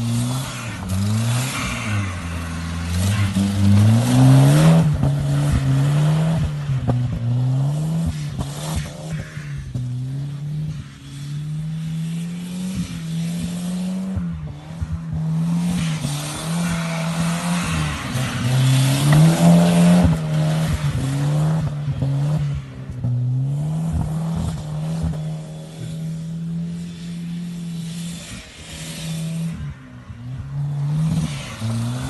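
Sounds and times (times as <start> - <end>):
car engine revving hard: 0.0 - 29.6
tyres skidding: 0.0 - 32.0.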